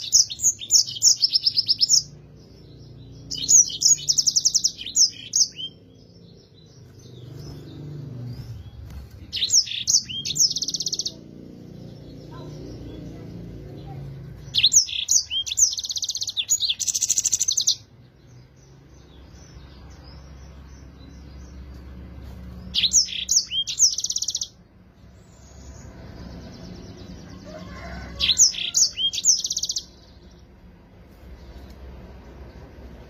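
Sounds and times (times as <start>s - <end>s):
canary singing: 0.0s - 33.0s.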